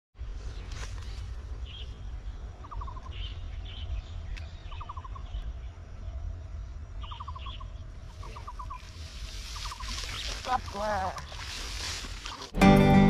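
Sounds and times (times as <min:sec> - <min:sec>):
steady low rumble: 0:00.2 - 0:12.5
higher bird chirps: 0:01.6 - 0:12.6.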